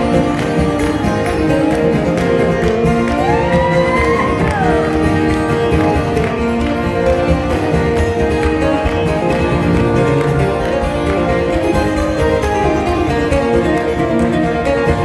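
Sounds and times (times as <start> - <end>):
acoustic guitars playing country-folk: 0.0 - 15.0.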